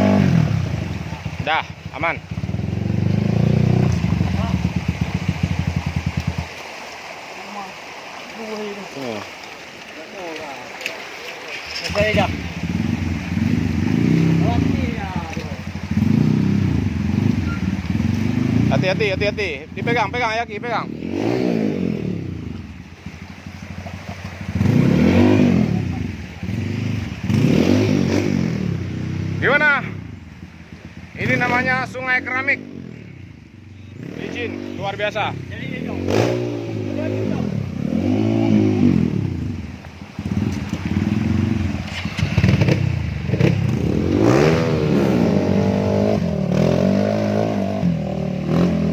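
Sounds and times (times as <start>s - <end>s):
motorcycle engine revving: 0.0s - 6.7s, 11.5s - 48.9s.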